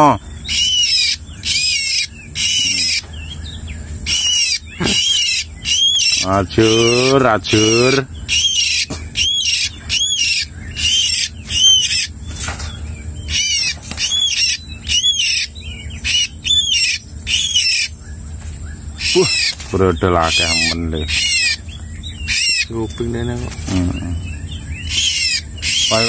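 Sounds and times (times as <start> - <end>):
bird calling high arching notes: 0.0 - 26.0.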